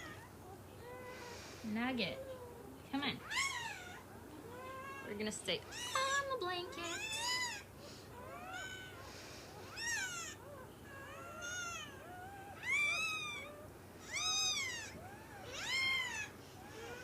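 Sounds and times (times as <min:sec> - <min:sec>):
puppy crying: 0:00.0 - 0:01.4, 0:02.2 - 0:17.0.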